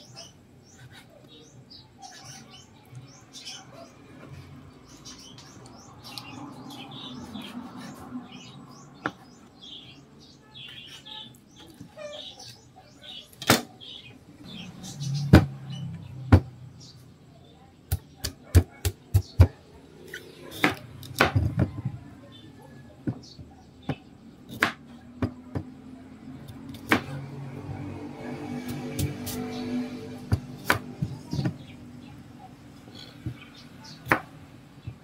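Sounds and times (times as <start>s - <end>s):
small birds chirping: 0.0s - 27.2s, 29.0s - 35.0s.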